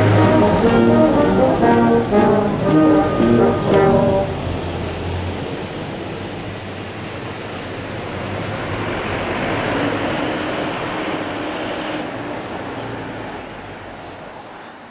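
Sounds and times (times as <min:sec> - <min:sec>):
road traffic passing: 0:00.0 - 0:14.6.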